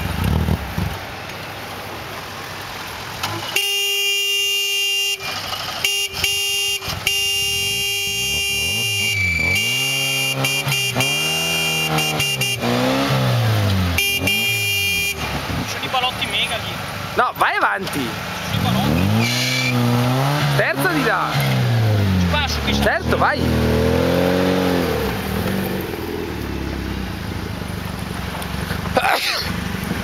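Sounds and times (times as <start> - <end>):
car engine revving under load: 0.0 - 3.8, 5.2 - 17.2, 17.8 - 30.0.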